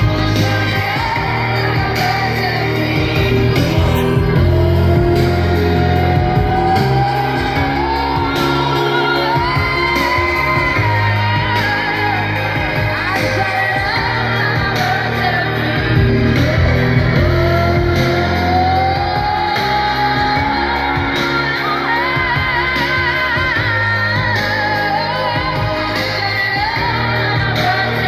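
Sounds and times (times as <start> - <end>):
pop band backing: 0.0 - 28.0.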